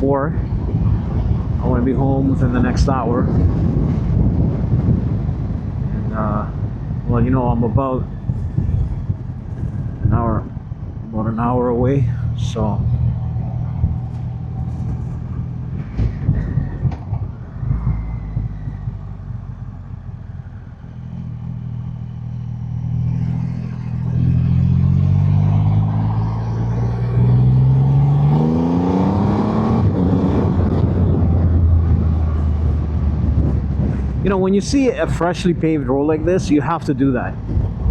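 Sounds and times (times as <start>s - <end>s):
wind rush: 0.0s - 37.9s
motorcycle engine accelerating: 0.5s - 36.4s.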